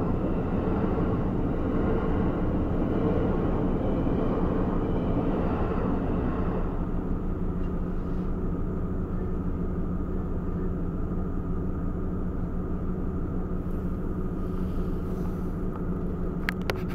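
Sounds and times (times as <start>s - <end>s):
low vehicle rumble: 0.0s - 16.9s.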